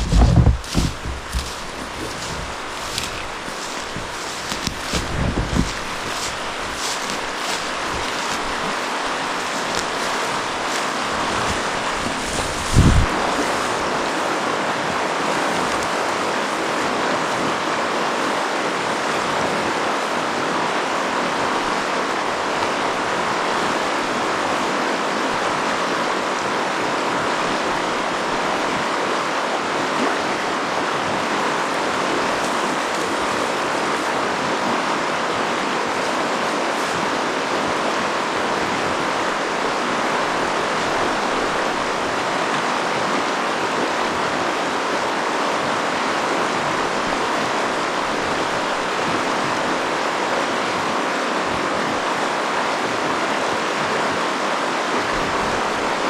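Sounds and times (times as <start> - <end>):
river rapids rushing: 0.0 - 56.0.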